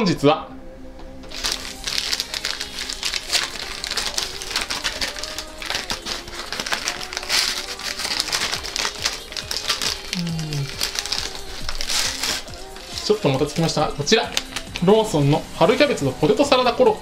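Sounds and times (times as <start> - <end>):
faint background music: 0.0 - 17.0
paper snack bag crinkling: 1.3 - 16.2.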